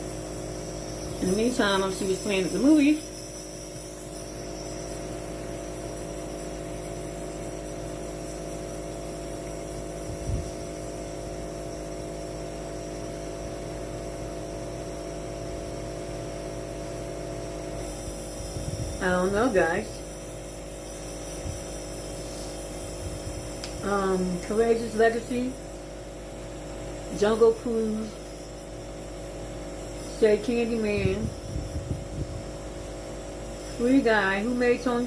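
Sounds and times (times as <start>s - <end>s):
nebulizer compressor humming: 0.0s - 35.0s.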